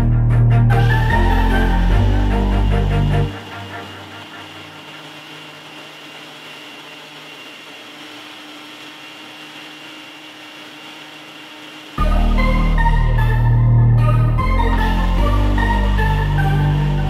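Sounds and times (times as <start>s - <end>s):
blender motor whining: 0.7s - 17.0s.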